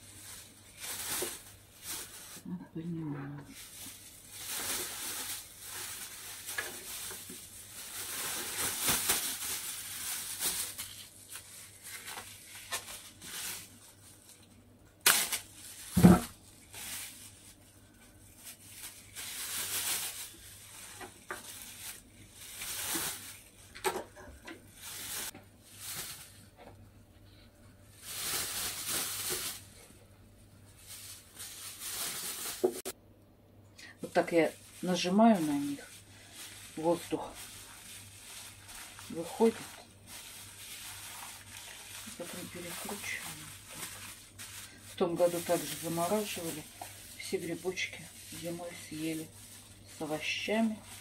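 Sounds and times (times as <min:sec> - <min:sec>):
plastic bags rustling: 0:00.0 - 0:33.0, 0:34.0 - 0:51.0.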